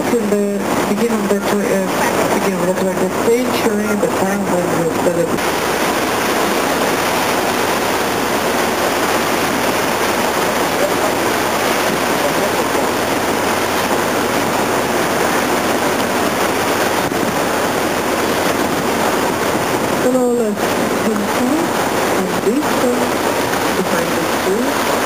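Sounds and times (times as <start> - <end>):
river water rushing along hull: 0.0 - 25.0.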